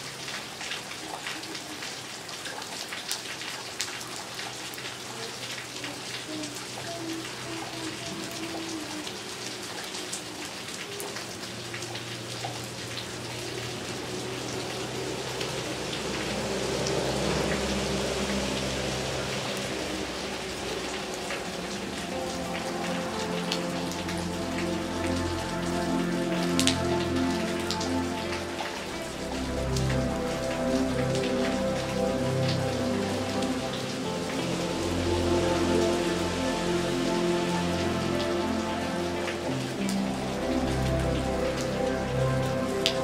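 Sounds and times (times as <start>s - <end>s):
rain falling on pavement: 0.0s - 43.0s
soft background music: 0.0s - 43.0s.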